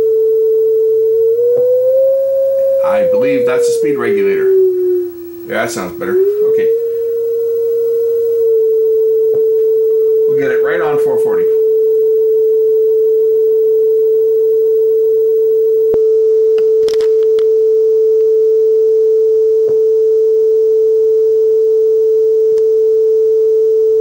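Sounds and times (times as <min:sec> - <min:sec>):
steady pure test tone: 0:00.0 - 0:23.1.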